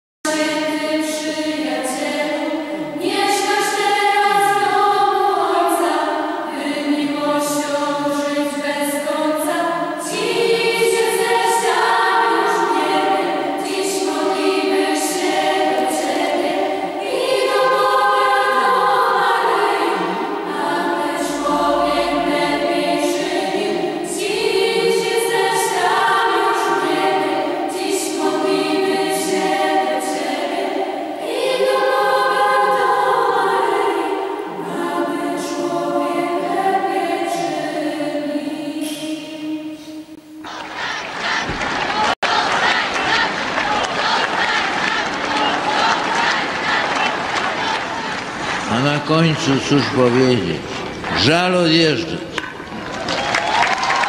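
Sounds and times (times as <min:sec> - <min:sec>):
children's choir singing: 0:00.3 - 0:52.7.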